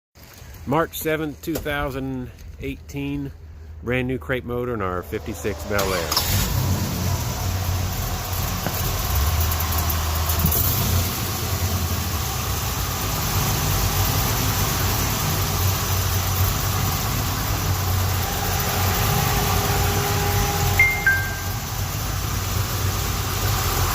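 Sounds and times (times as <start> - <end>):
car engine idling: 4.7 - 23.9.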